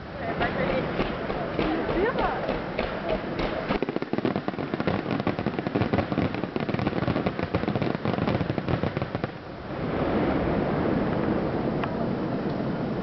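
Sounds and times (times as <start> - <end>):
fireworks bangs and crackles: 0.0 - 12.8.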